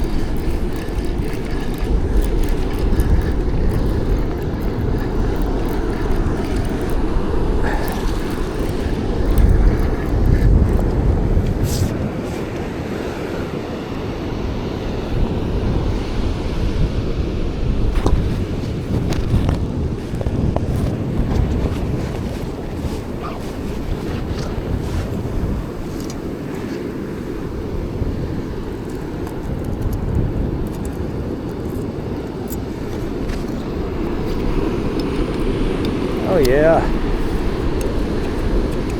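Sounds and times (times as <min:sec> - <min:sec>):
low rumble of surf: 0:00.0 - 0:38.9
wind buffeting microphone: 0:00.0 - 0:38.9.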